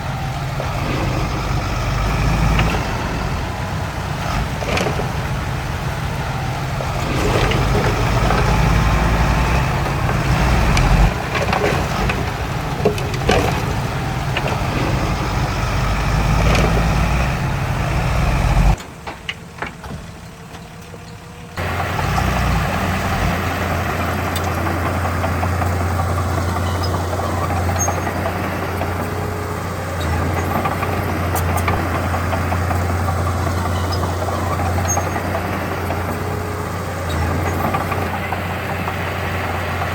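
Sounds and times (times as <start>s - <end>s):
diesel machinery engines: 0.0s - 39.9s
low engine drone: 0.0s - 39.9s.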